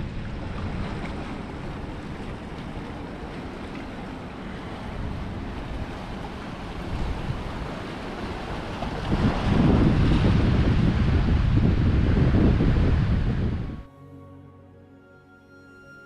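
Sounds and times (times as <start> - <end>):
wind rumbling on microphone: 0.0 - 13.9
sea waves washing in: 0.0 - 14.0.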